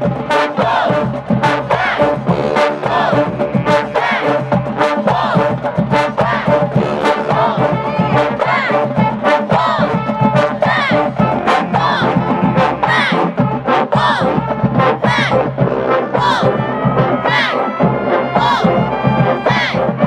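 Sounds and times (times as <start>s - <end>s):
crowd shouting and cheering: 0.0s - 20.0s
drum hits: 0.0s - 20.0s
marching band brass playing: 0.0s - 20.0s.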